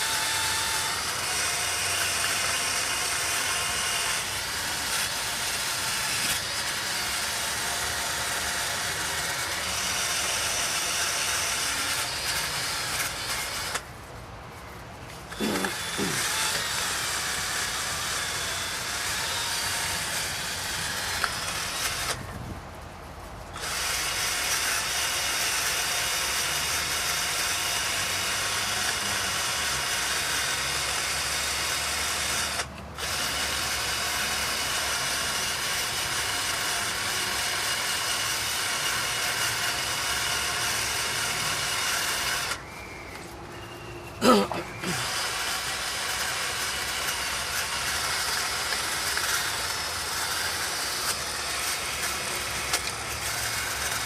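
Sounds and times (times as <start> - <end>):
handheld power tool running: 0.0 - 13.9, 15.0 - 22.5, 23.5 - 43.3, 44.2 - 54.0.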